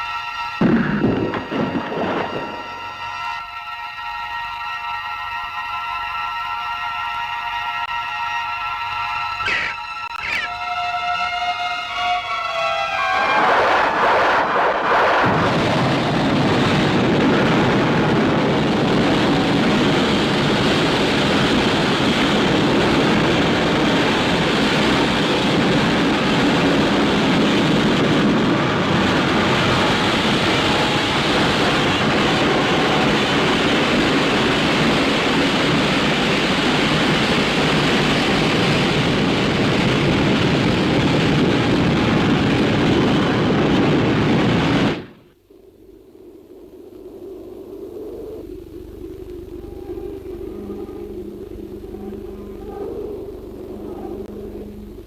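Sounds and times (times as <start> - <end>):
loud steady rushing noise: 0.6 - 3.4, 11.5 - 55.0.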